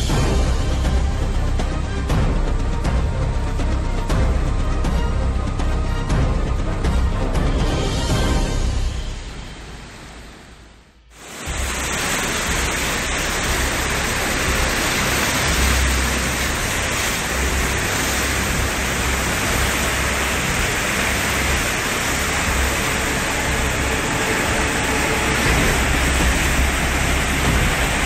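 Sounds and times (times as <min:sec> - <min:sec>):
low rumble: 0:00.0 - 0:28.0
river rushing: 0:05.5 - 0:28.0.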